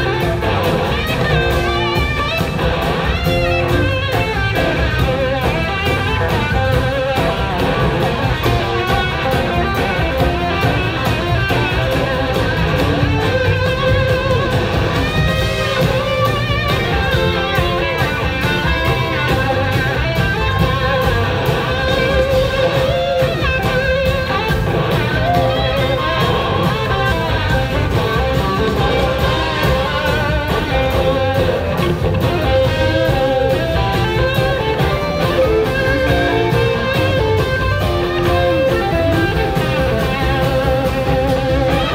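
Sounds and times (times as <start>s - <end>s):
electric guitars gliding lines: 0.0s - 41.9s
rock band playing: 0.0s - 41.9s.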